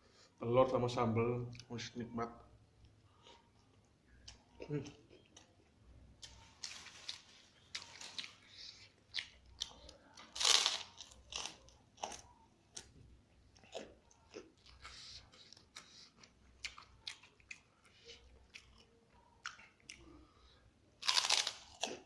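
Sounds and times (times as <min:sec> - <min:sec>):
crunching and chewing food: 0:03.1 - 0:22.0.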